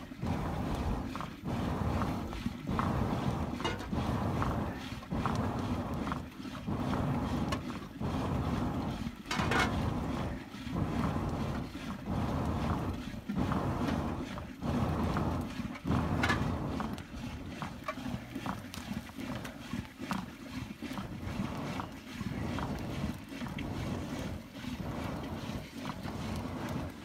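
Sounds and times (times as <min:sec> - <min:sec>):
person blowing on embers: 0:00.0 - 0:27.0.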